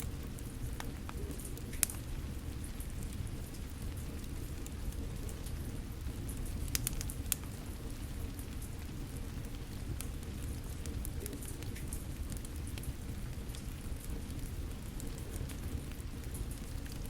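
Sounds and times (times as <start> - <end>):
steady rain falling: 0.0 - 17.0
wood fire crackling: 0.0 - 17.0
sharp pops from fire: 0.1 - 7.6, 9.8 - 17.0.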